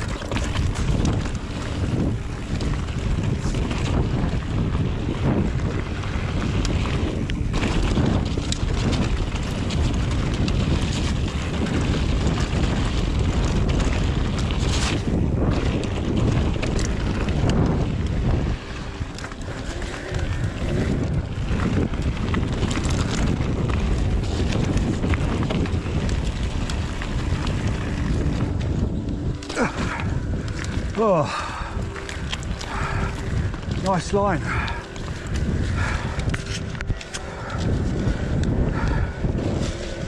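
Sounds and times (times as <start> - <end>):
tyres rumbling over rough trail: 0.0 - 40.0
wind buffeting microphone: 0.0 - 40.0.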